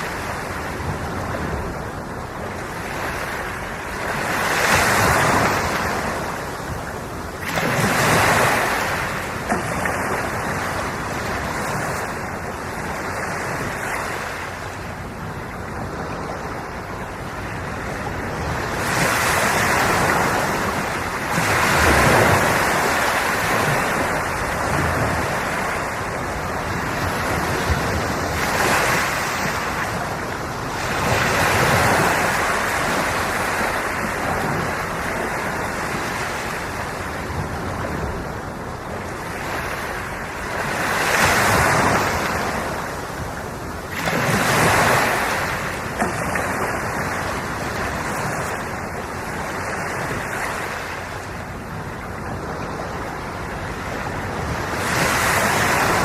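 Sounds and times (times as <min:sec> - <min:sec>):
ocean waves washing ashore: 0:00.0 - 0:56.0
wind on microphone: 0:00.0 - 0:56.0.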